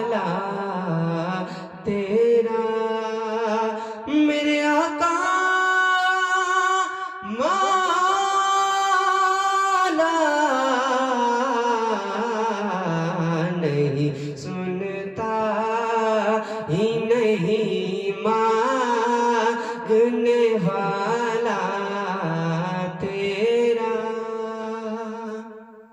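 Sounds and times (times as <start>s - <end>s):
person singing devotional song: 0.0s - 25.9s.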